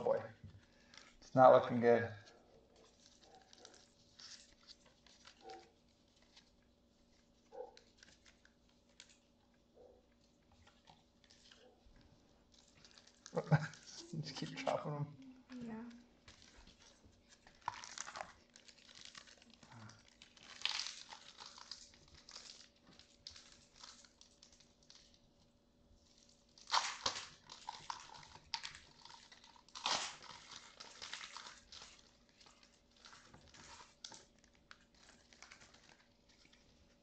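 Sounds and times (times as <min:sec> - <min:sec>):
plastic wrappers crinkling and tearing: 0:00.0 - 0:37.0.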